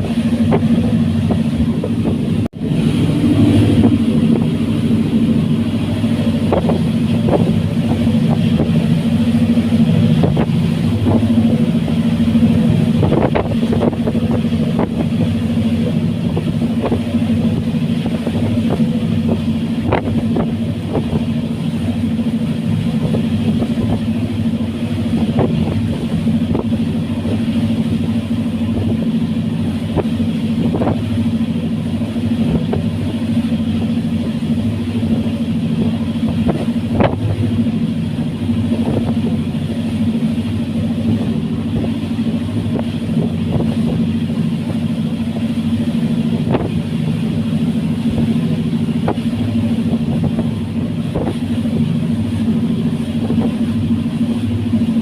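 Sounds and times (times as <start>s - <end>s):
ferry engines droning: 0.0s - 55.0s.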